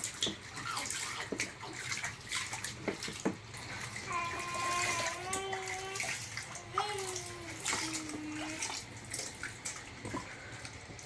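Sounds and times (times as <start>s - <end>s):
knocks and splashes: 0.0s - 11.0s
water running into bathtub: 0.0s - 11.0s.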